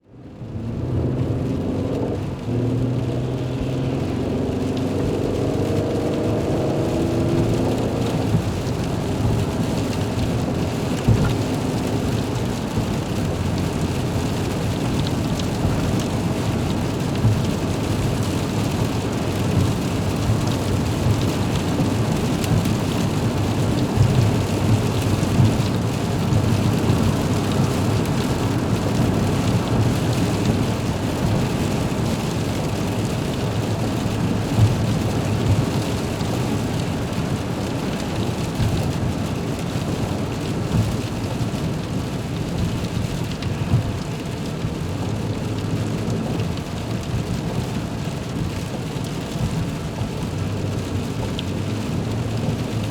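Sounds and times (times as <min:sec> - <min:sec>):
rain drumming on a car roof: 0:00.0 - 0:52.9.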